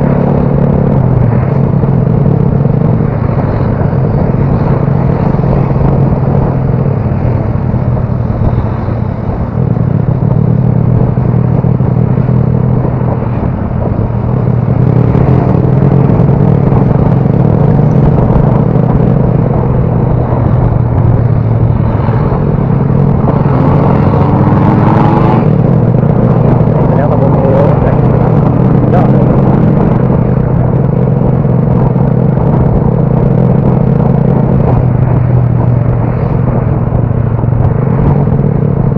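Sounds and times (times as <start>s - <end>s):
dense rushing noise: 0.0s - 38.9s
motorcycle engine cruising: 0.0s - 38.9s.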